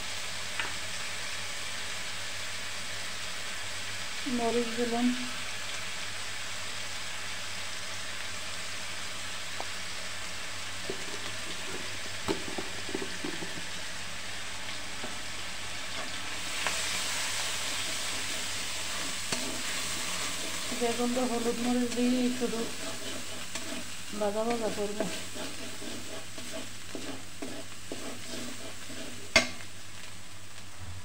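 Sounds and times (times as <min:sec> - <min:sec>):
spices sizzling in hot oil: 0:00.0 - 0:31.0.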